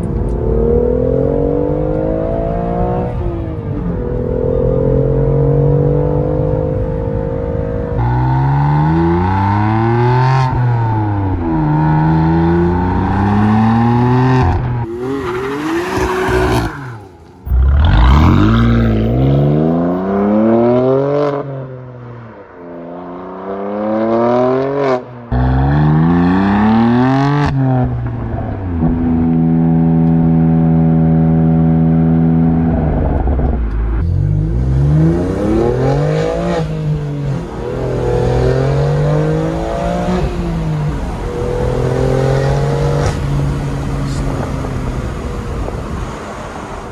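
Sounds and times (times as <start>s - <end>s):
car engine revving through upshifts: 0.0s - 46.9s.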